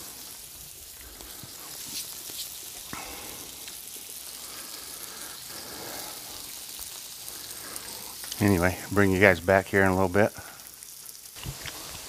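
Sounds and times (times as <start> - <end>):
steak sizzling on a griddle: 0.0 - 12.0.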